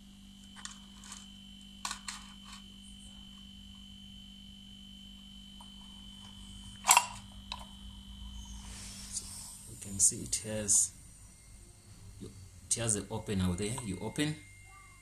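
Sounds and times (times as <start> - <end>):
refrigerator compressor humming: 0.0 - 15.0.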